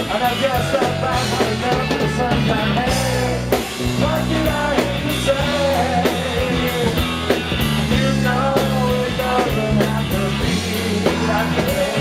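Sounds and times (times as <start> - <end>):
drum kit beat: 0.0 - 12.0
live rock band playing: 0.0 - 12.0.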